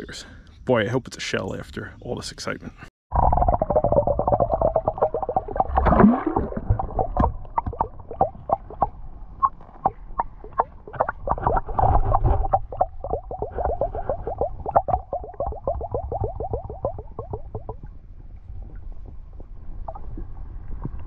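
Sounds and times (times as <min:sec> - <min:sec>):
underwater clicking and popping: 0:03.1 - 0:21.0
underwater gurgling: 0:03.1 - 0:21.0.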